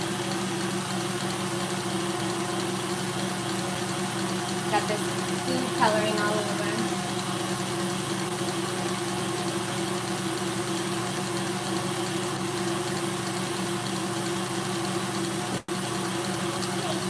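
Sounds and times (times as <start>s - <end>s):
stand mixer motor hum: 0.0s - 17.0s
whisk whirring in bowl: 0.0s - 17.0s.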